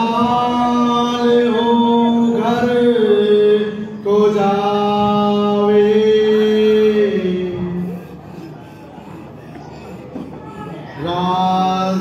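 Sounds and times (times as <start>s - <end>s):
person chanting: 0.0s - 12.0s.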